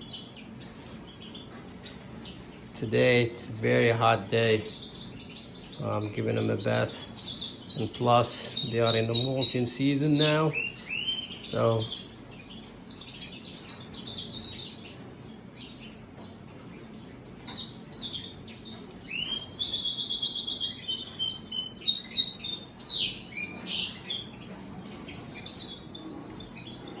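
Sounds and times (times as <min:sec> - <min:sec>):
goldfinches chirping and twittering: 0:00.0 - 0:27.0.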